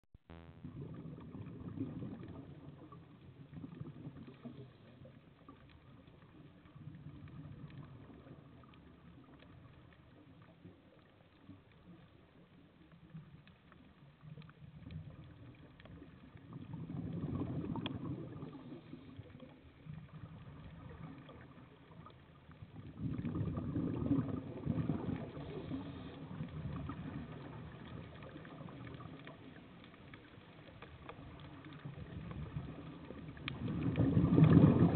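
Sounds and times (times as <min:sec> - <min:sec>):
underwater bubbles burbling: 0:00.3 - 0:34.9.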